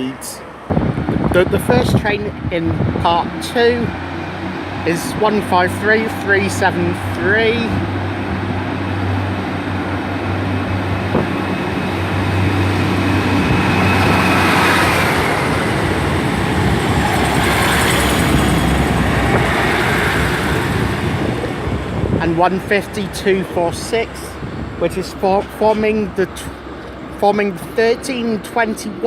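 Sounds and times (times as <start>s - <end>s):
diesel train engine humming: 0.0s - 29.0s
wheel and rail noise: 0.0s - 29.0s.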